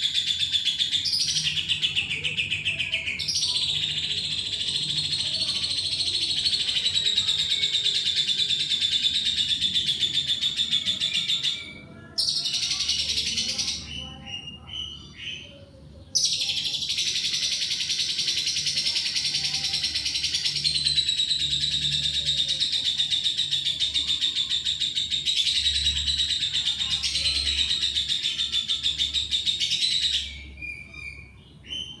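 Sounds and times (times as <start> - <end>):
bird chirps: 0.0 - 32.0.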